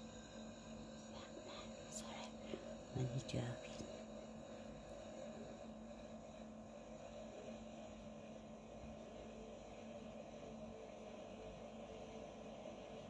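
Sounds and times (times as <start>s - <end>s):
faint hum with low hiss: 0.0s - 13.0s.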